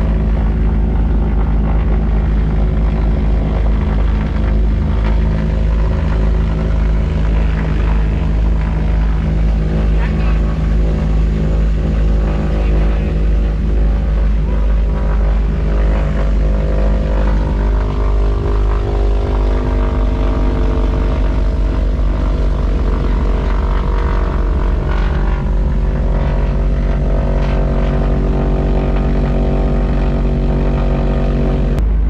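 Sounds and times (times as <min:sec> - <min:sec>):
propeller plane engines droning: 0:00.0 - 0:32.0.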